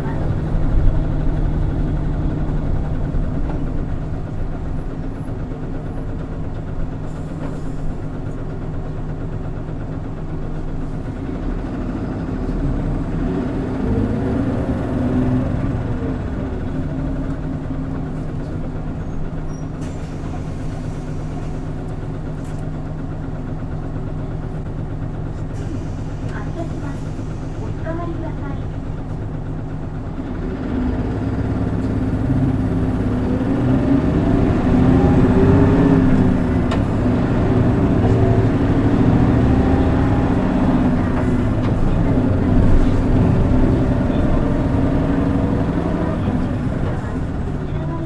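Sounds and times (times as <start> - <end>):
bus drivetrain running: 0.0 - 48.0.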